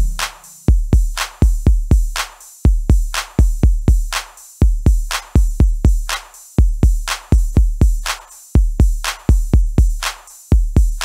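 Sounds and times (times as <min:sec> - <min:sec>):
drum machine beat: 0:00.0 - 0:11.0.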